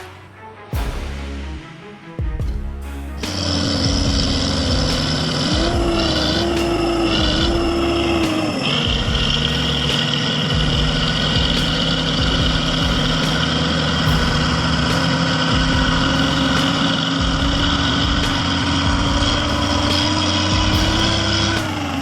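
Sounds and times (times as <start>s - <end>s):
heavy machine engine running: 3.2s - 22.0s.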